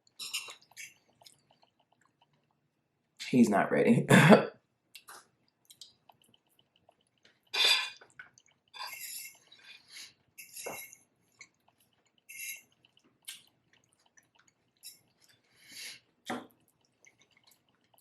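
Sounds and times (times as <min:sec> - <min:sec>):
wet chewing and lip smacks: 0:00.0 - 0:02.8, 0:04.9 - 0:18.0.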